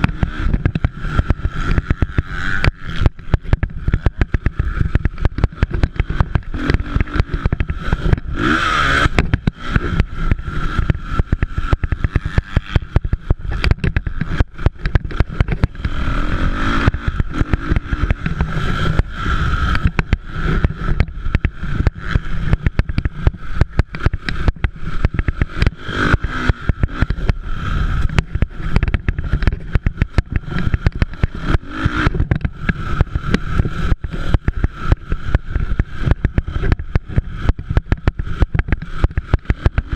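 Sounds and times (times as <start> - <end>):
dense crackling rumble: 0.0 - 39.9
dirt bike engines revving: 0.0 - 39.9.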